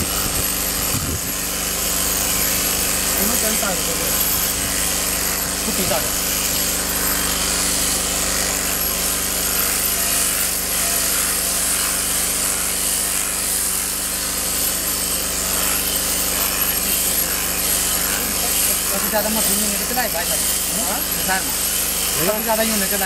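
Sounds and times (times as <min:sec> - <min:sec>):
shearing machine buzzing: 0:00.0 - 0:23.0.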